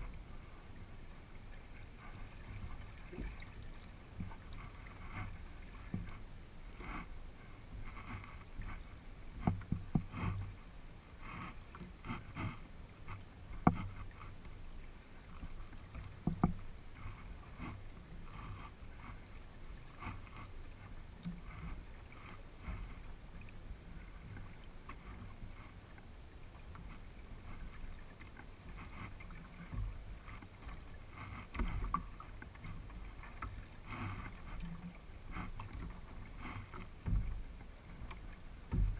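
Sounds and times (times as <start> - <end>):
water lapping against hull: 0.0 - 38.9.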